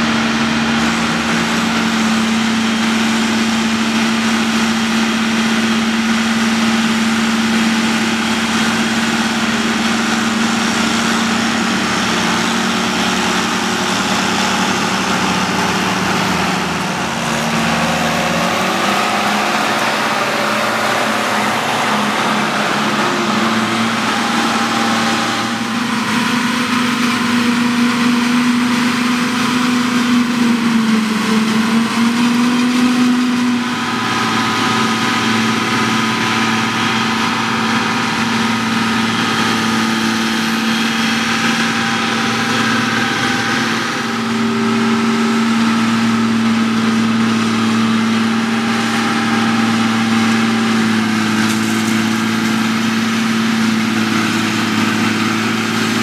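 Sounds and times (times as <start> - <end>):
forage harvester engine droning: 0.0 - 56.0.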